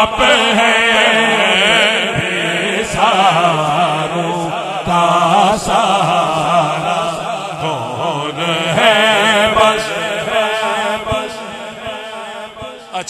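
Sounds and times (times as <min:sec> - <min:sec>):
man singing chant-like: 0:00.0 - 0:13.0.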